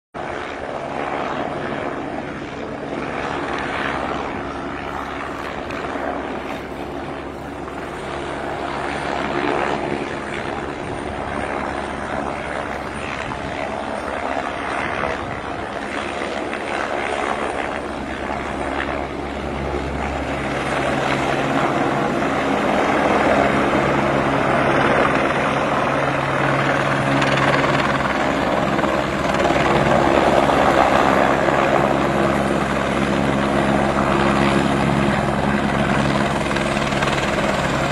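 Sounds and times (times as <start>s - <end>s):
helicopter rotor and turbine: 0.2s - 37.9s.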